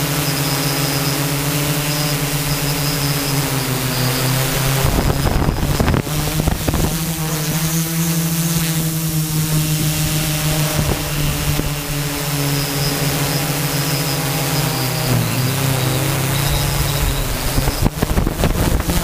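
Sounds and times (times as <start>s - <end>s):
drone motors humming: 0.0s - 19.0s
wind gusts on microphone: 0.7s - 19.0s.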